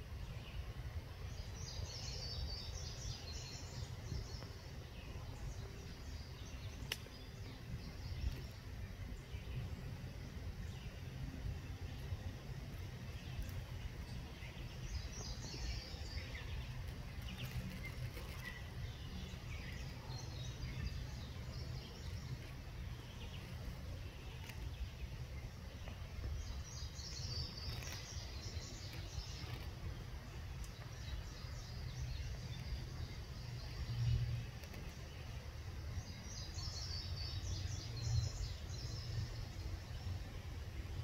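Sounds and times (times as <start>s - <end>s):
small birds chirping: 0.0s - 41.0s
steady low rumble: 0.0s - 41.0s.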